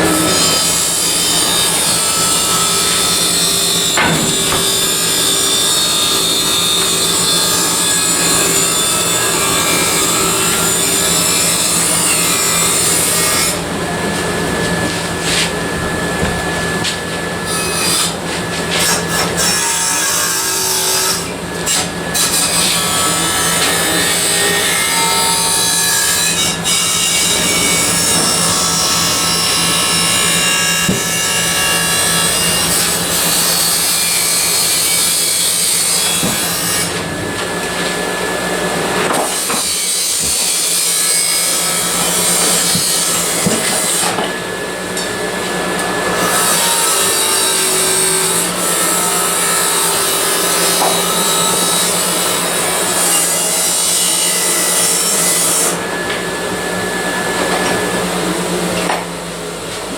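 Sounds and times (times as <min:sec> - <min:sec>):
power tool scraping sheet metal: 0:00.0 - 0:56.3.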